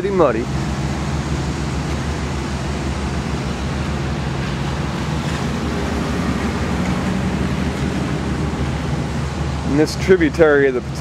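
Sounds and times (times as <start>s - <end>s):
outdoor rushing noise with rumble: 0.0s - 11.0s.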